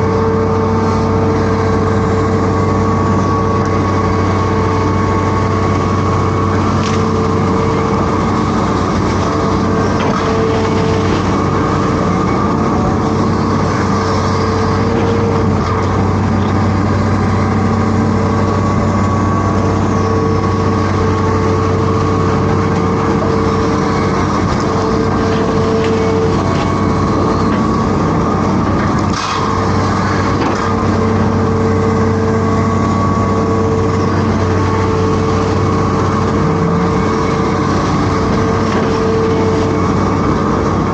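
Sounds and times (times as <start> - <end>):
excavator diesel engine running: 0.0 - 40.9
hydraulic whine: 0.0 - 40.9.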